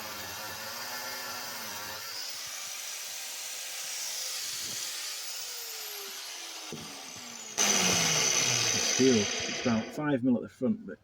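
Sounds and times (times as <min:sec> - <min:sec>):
angle grinder spinning down: 0:00.0 - 0:10.0.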